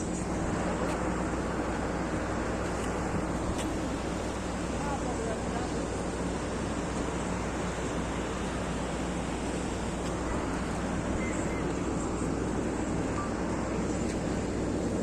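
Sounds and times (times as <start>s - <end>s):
engines droning: 0.0s - 15.0s.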